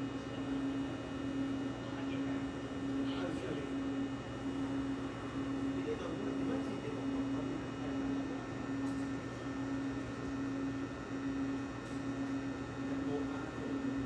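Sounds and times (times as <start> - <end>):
railcar electrical hum: 0.0 - 14.0.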